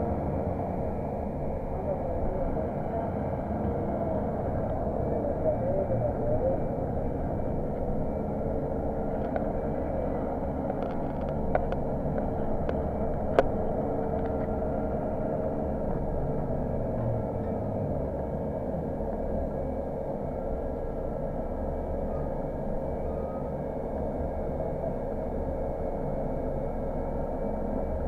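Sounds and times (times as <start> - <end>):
bus running in traffic: 0.0 - 28.0.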